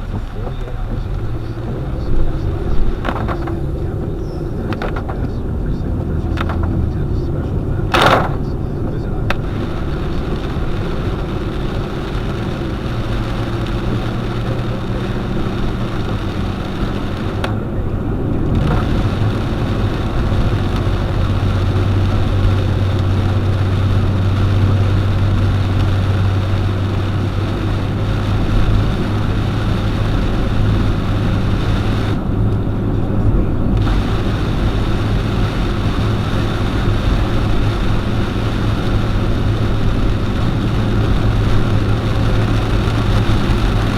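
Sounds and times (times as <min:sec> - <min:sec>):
car engine hum: 0:00.0 - 0:43.9
rain hissing: 0:00.0 - 0:43.9
wet tyres on road: 0:00.0 - 0:43.9.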